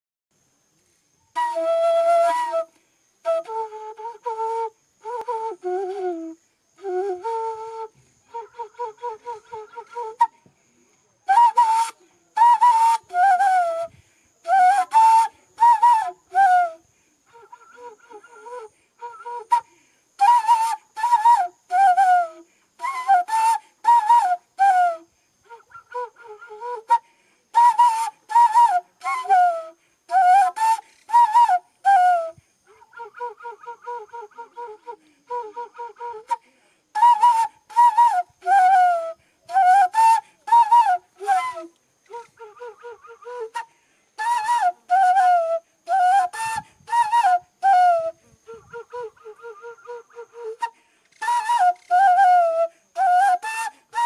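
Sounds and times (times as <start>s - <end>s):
flute-like wind instrument: 1.2s - 54.0s.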